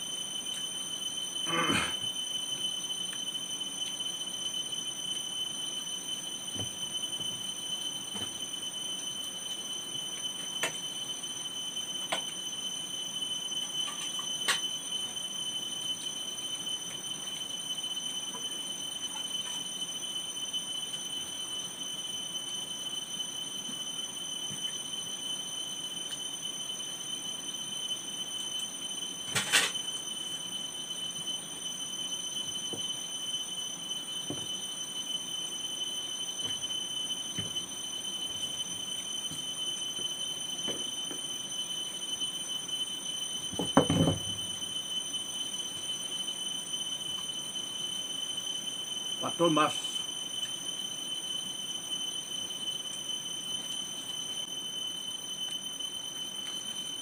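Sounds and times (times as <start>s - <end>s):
high-pitched whine: 0.0s - 57.0s.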